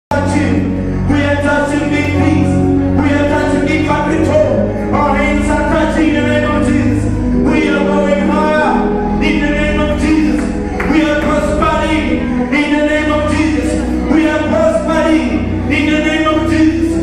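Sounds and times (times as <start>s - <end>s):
gospel singing: 0.1s - 17.0s
sustained bass line: 0.1s - 17.0s.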